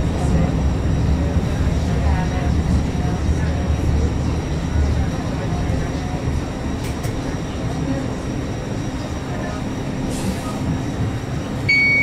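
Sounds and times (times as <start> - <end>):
tram cabin rumble and hum: 0.0 - 12.0.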